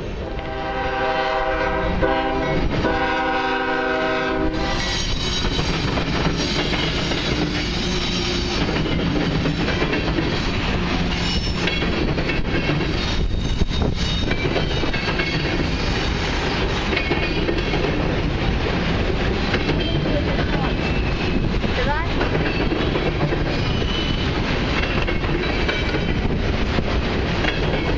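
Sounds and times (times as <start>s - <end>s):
steel wheels clattering on rails: 1.4s - 27.9s.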